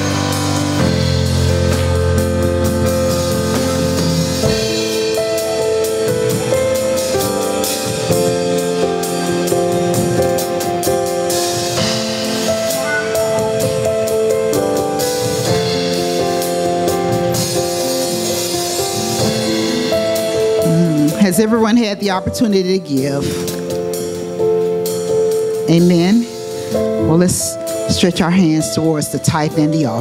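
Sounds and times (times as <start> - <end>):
drum kit with cymbals: 0.0 - 30.0
keyboard chords: 0.0 - 30.0.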